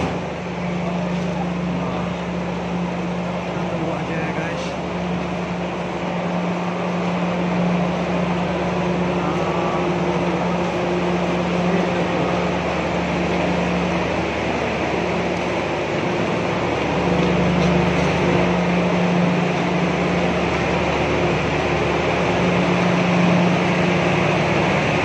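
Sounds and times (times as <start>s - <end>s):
fan-like noise: 0.0s - 25.0s
train machinery low hum: 0.0s - 25.0s.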